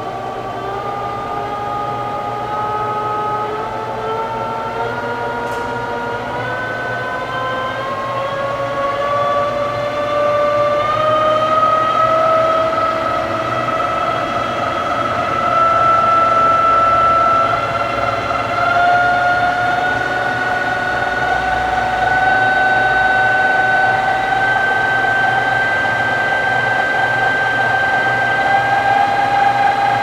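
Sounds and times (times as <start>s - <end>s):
lathe whine rising in pitch: 0.0s - 30.0s.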